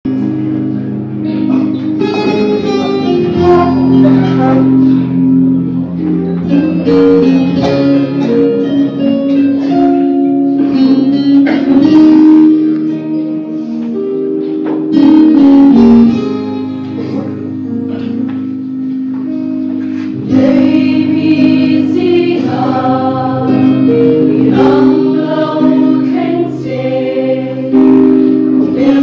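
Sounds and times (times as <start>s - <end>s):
guitar playing chords: 0.1s - 29.0s.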